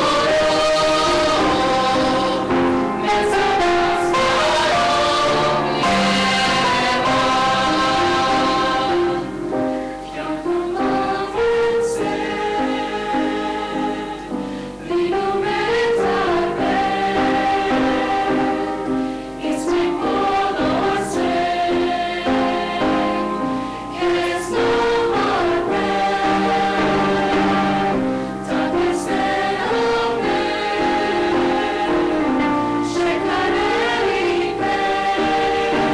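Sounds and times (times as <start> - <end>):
mixed choir singing in harmony: 0.0 - 35.9
piano chords: 0.0 - 35.9.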